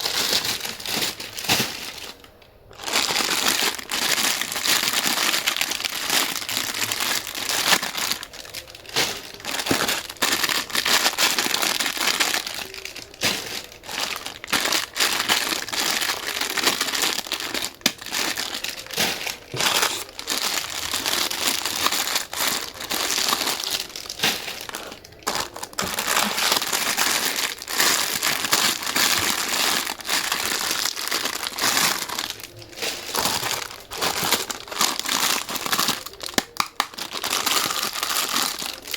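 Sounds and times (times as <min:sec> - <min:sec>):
crinkling and crumpling: 0:00.0 - 0:38.9.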